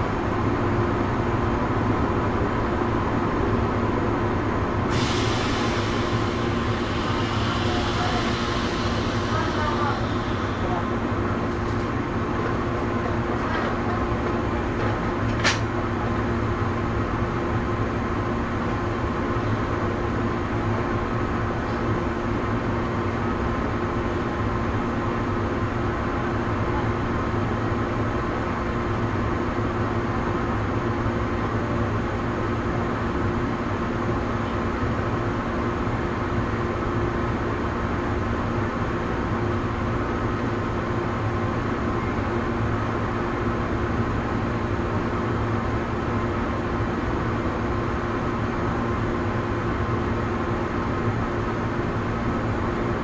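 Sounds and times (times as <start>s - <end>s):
train equipment humming: 0.0s - 53.0s.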